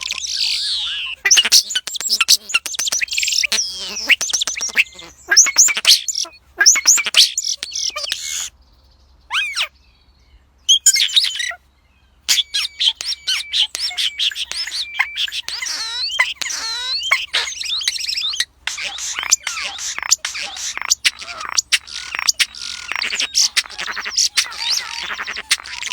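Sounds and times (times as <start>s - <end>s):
starling singing: 0.0s - 8.5s, 10.7s - 11.6s, 12.3s - 25.9s.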